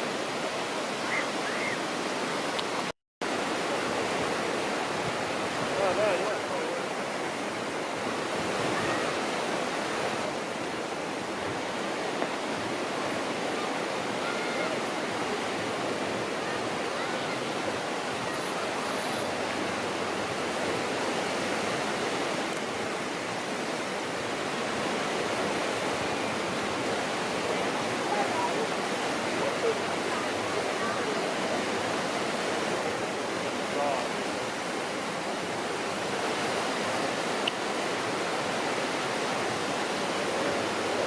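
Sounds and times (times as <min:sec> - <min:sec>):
sea water rushing: 0:00.0 - 0:41.0.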